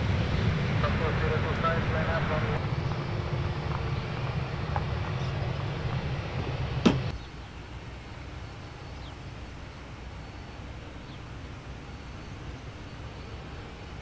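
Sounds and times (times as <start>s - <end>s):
jet engines rumbling: 0.0s - 14.0s
low background hum: 0.0s - 14.0s.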